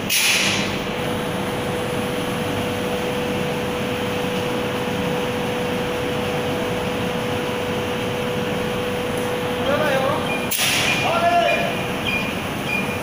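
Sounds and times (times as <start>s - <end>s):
belt conveyor machine drone: 0.0s - 13.0s.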